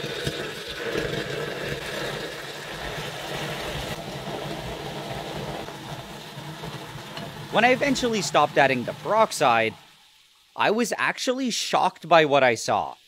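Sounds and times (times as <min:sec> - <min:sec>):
acid bubbling and fizzing: 0:00.0 - 0:13.0.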